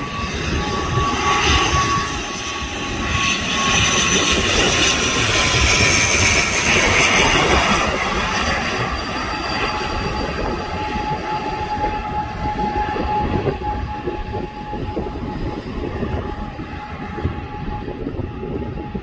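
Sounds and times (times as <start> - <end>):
jet engines rumbling and whining: 0.0 - 19.0.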